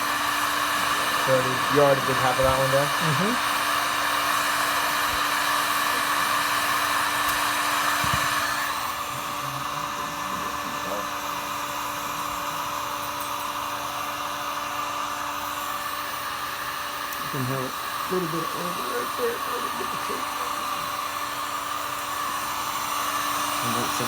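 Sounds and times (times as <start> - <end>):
heat gun fan hum: 0.0 - 24.0.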